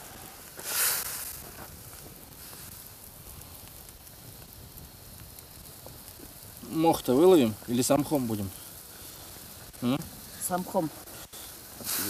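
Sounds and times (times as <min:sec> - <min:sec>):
campfire crackling: 0:00.0 - 0:12.0
food sizzling and hissing in pan: 0:00.0 - 0:12.0.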